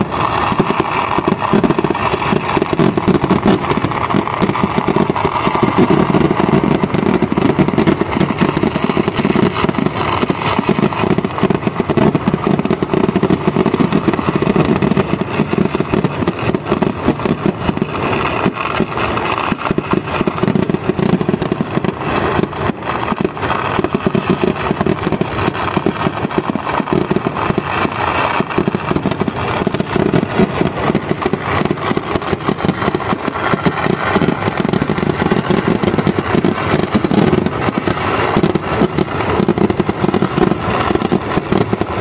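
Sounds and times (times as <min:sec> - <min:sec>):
fireworks barrage: 0:00.0 - 0:42.0.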